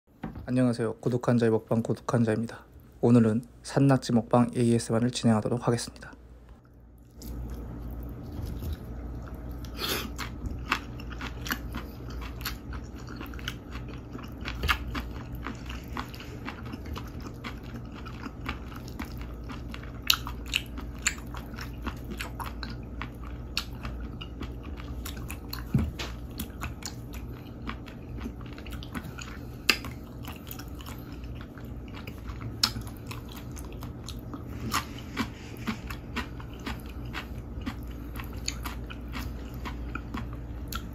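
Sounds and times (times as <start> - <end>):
low steady hum: 0.1 - 40.9
chewing clicks and crunches: 6.6 - 40.9.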